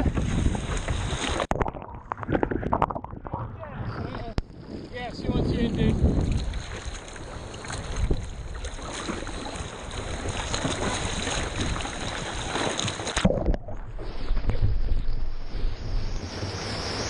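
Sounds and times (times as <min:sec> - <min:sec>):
water splashing and sloshing: 0:00.0 - 0:17.0
wind on microphone: 0:00.0 - 0:17.0.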